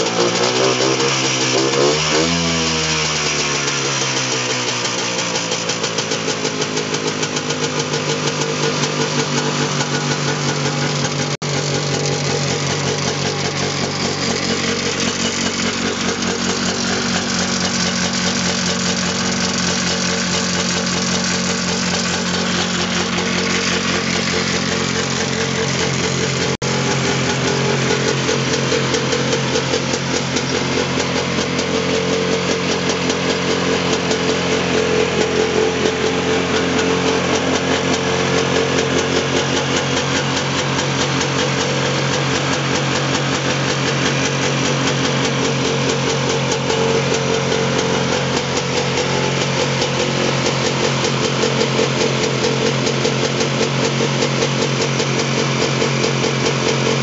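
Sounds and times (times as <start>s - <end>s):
snowmobile engine idling fast: 0.0s - 57.0s.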